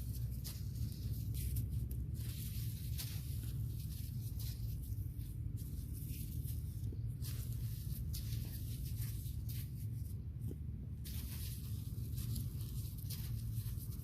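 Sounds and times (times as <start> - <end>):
rustling and scraping: 0.0 - 14.0
steady low rumble: 0.0 - 14.0.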